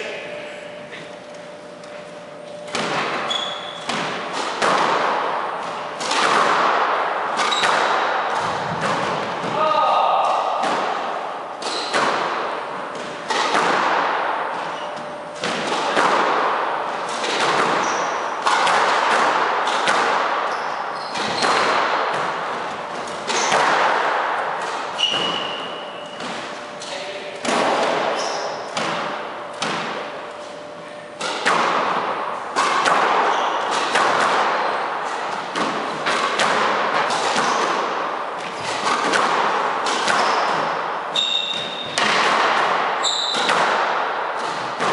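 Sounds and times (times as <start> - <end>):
squash ball hitting rackets and walls: 1.0 - 44.9.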